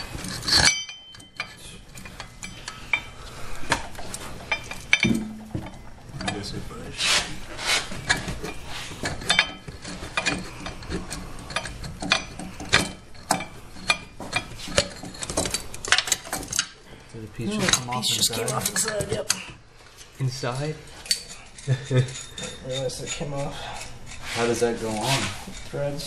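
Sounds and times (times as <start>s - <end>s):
metal tools clinking and rattling: 0.0s - 3.2s, 3.8s - 6.6s, 8.0s - 16.8s, 17.7s - 19.5s, 20.9s - 26.0s.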